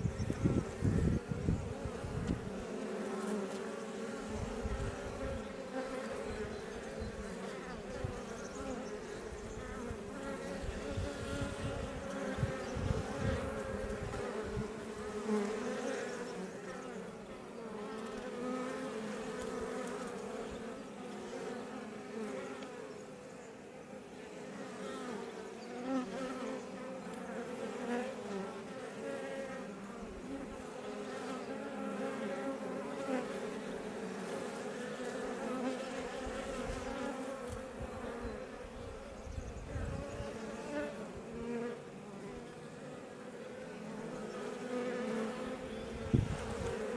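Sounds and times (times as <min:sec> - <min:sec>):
bees buzzing: 0:00.0 - 0:46.9.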